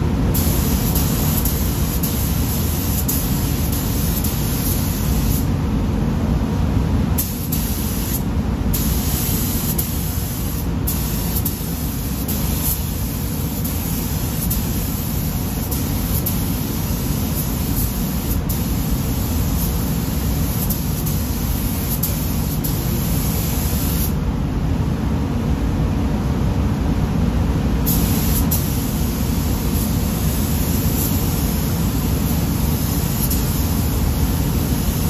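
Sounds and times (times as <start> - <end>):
paint spray gun hissing: 0.4 - 5.5, 7.2 - 24.2, 27.9 - 35.0.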